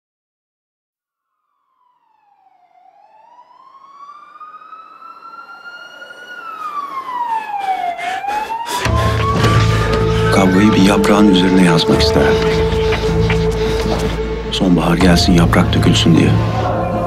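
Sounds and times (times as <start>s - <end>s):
wailing siren: 1.3s - 17.0s.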